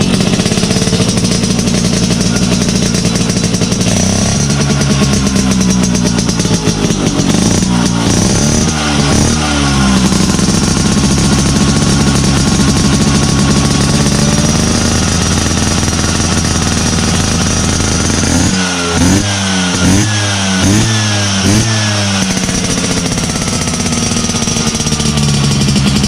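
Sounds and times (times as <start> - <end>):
scooter engine idling and revving: 0.0 - 26.0.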